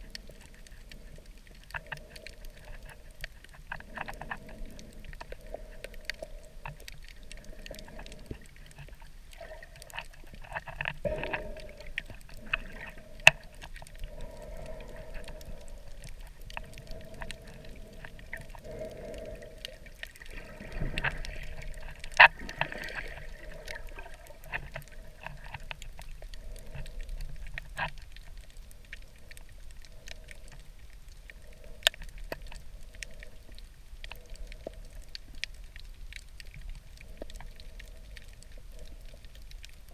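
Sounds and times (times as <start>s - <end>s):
underwater water movement: 0.0s - 39.9s.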